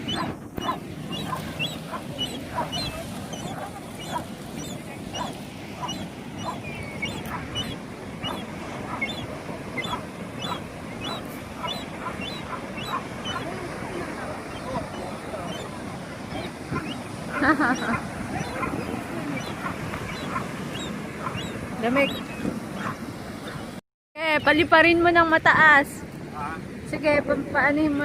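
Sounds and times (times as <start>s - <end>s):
flock of birds calling: 0.0s - 23.8s.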